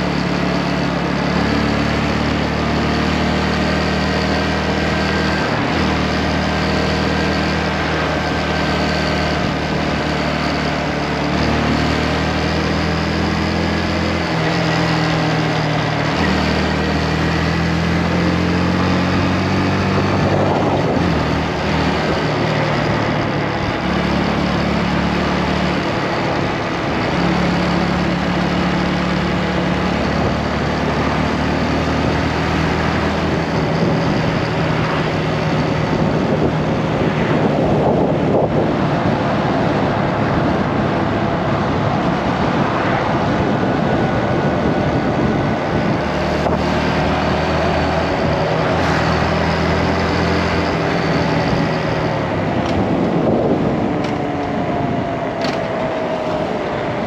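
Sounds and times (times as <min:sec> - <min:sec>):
wind noise: 0:00.1 - 0:57.0.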